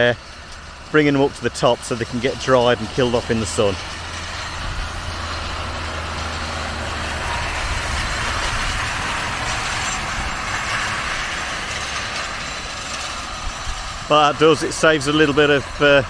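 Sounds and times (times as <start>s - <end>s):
straw rake rushing noise: 0.0s - 16.0s
tractor engine running: 0.0s - 16.0s.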